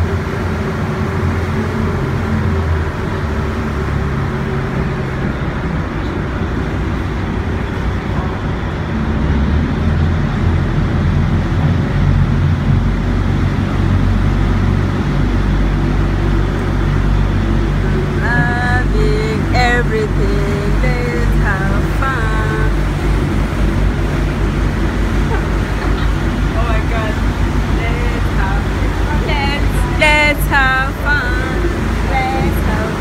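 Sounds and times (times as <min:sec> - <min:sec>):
boat engine drone: 0:00.0 - 0:33.0.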